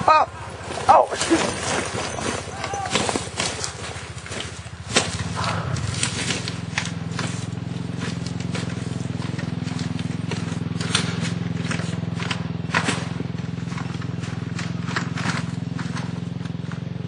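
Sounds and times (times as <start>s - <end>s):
footsteps on dirt: 0.0s - 17.0s
small engine idling: 0.0s - 17.0s.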